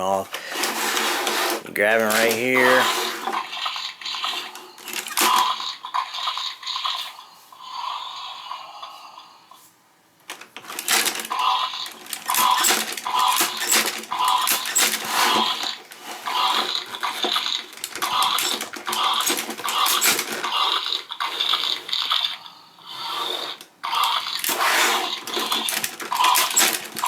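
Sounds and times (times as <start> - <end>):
toy motor clicking and clattering: 0.5 - 7.2, 10.3 - 27.0.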